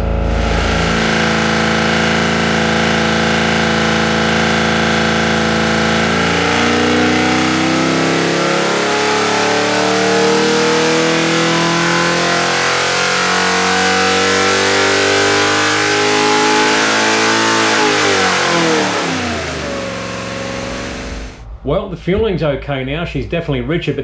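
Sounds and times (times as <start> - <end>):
carburettor induction noise: 0.0 - 21.4
engine revving on dyno: 0.0 - 21.4.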